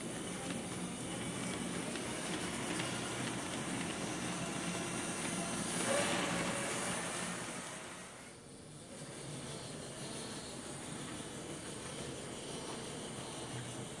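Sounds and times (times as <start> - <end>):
hiss: 0.0 - 14.0
model train rumbling: 0.0 - 14.0.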